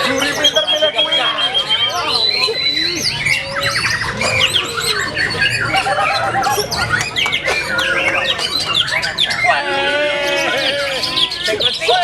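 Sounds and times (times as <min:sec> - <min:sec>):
birds singing in a chorus: 0:00.0 - 0:12.0
low crowd murmur: 0:00.0 - 0:12.0.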